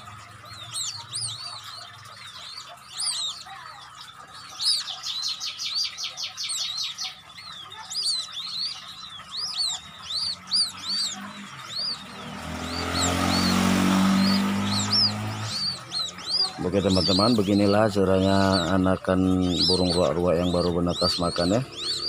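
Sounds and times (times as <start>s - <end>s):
chicks peeping: 0.0s - 22.0s
road vehicle passing: 0.0s - 22.0s.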